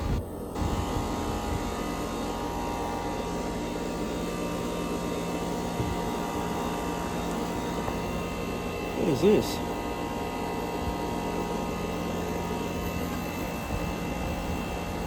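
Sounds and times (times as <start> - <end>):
air conditioner condenser humming: 0.0 - 15.0.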